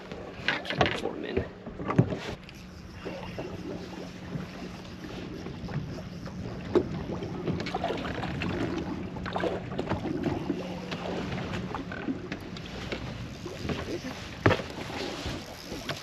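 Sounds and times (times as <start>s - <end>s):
steady low hum: 0.0s - 16.0s
waves lapping against boat hull: 0.0s - 16.0s.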